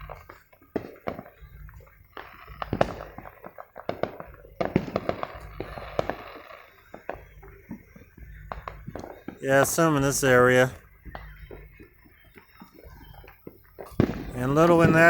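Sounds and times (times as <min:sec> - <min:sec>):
fireworks crackling: 0:00.0 - 0:15.0
fireworks popping and banging: 0:00.0 - 0:15.0.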